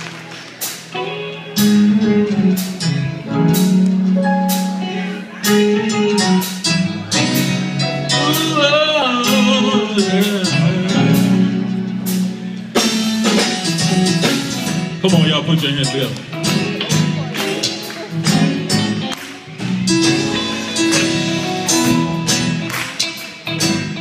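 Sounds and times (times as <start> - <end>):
gospel band playing: 0.0 - 24.0.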